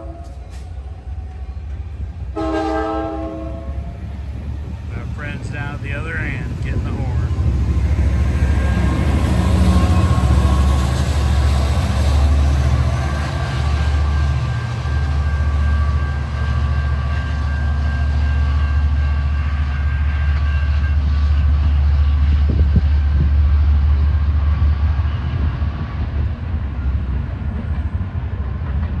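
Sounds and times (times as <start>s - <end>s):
passenger train rumbling: 0.0s - 29.0s.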